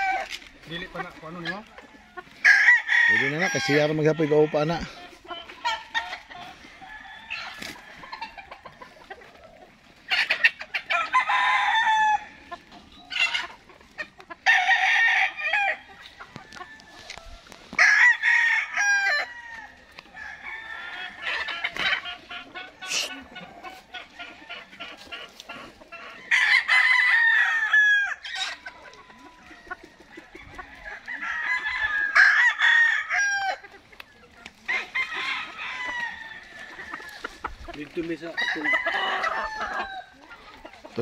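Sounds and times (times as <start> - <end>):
hens clucking: 0.0 - 41.0
roosters crowing: 0.0 - 41.0.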